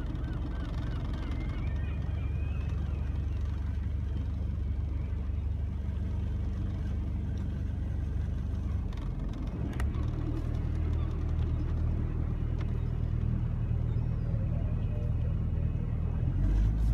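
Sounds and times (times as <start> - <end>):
boat engine droning: 0.0 - 16.9.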